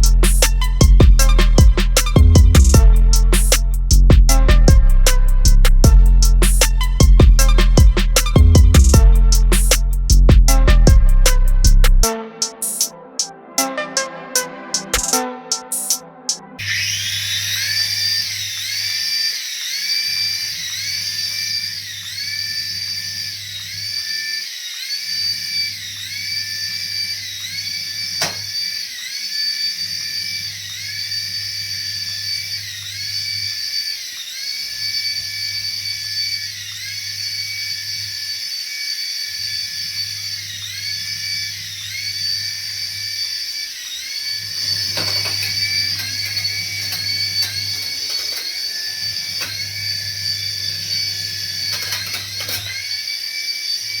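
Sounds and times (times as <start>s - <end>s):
toy electronic whine: 0.0s - 54.0s.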